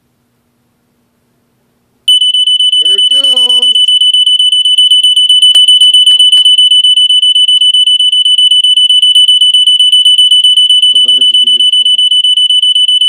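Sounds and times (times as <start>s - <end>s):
smoke detector alarm: 2.1s - 13.0s.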